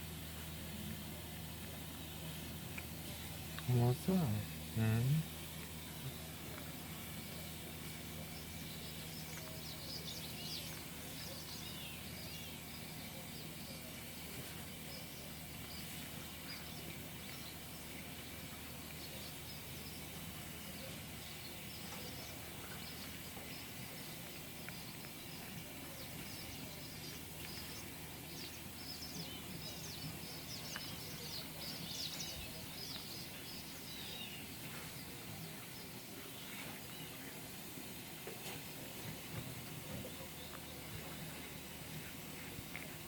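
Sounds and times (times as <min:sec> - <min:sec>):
outdoor background noise: 0:00.0 - 0:43.0.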